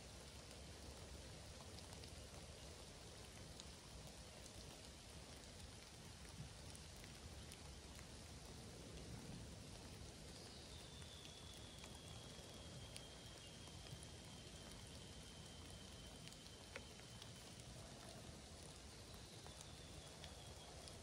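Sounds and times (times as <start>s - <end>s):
faint light rain: 0.0s - 21.0s
raindrops ticking: 0.0s - 21.0s.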